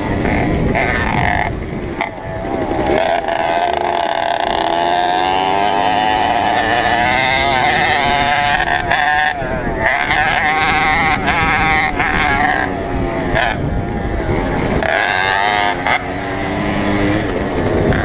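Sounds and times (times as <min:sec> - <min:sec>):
moped engine buzzing: 0:00.0 - 0:18.0
rough rushing noise: 0:00.0 - 0:18.0.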